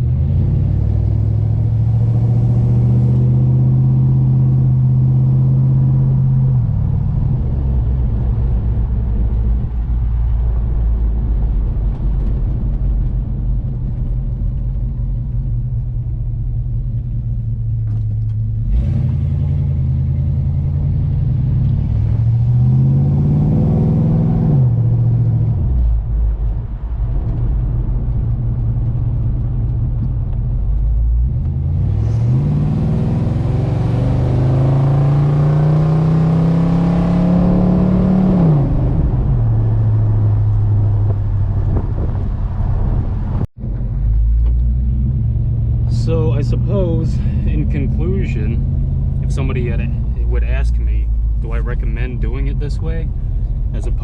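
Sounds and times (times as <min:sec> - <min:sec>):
car exhaust rumble: 0:00.0 - 0:54.0.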